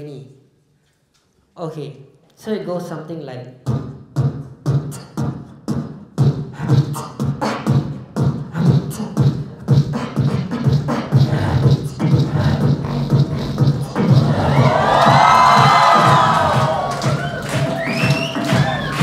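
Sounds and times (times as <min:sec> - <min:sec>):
beatboxing into a microphone: 0:01.6 - 0:19.0.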